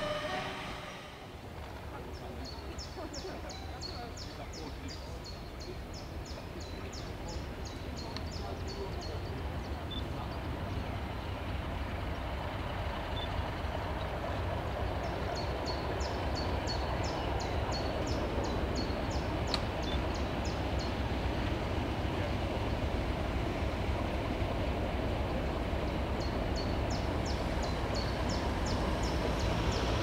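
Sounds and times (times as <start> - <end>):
diesel locomotive engine rumble: 0.0 - 30.0.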